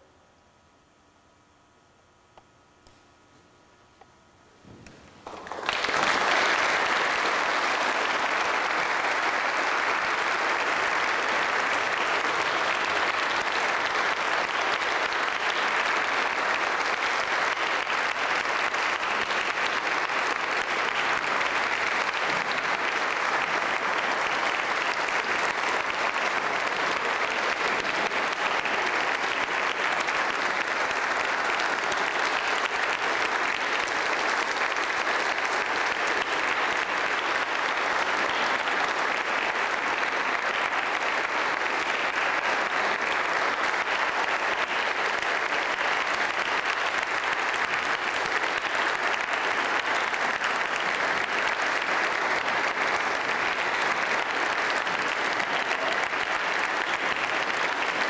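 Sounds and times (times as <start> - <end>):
audience applauding: 4.8 - 58.0.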